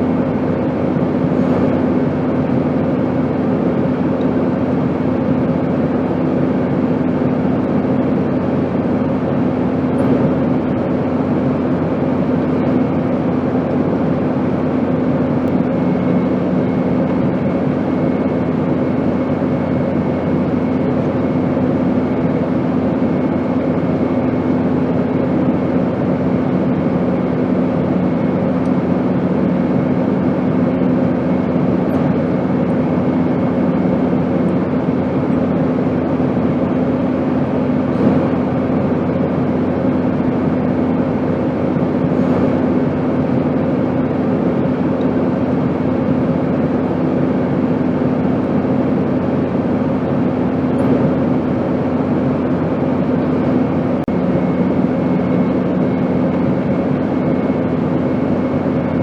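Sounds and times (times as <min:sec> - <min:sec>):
low airplane hum: 0:00.0 - 0:59.0
second lower hum: 0:00.0 - 0:59.0.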